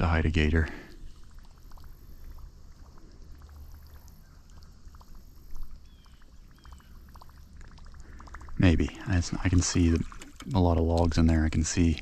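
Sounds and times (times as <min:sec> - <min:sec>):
low steady rumble: 0:00.0 - 0:12.0
water trickling and dripping: 0:00.0 - 0:12.0.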